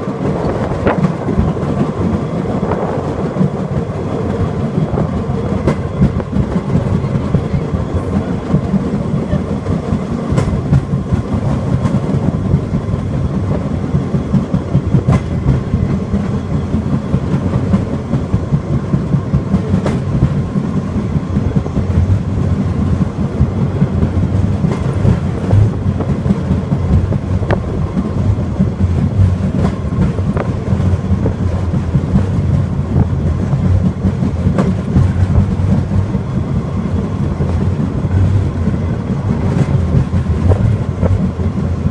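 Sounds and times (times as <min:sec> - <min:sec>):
rail cart wheels and motor rumbling: 0:00.0 - 0:41.9
rail clicks and knocks: 0:00.0 - 0:41.9.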